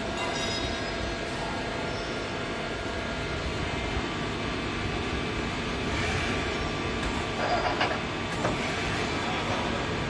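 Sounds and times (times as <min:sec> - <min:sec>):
lathe humming and whining: 0:00.0 - 0:10.0.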